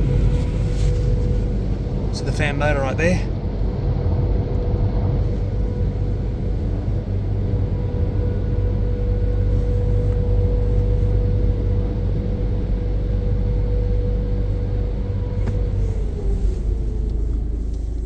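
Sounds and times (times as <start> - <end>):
blower fans rushing air: 0.0 - 18.0
fan motor whine: 0.0 - 18.0.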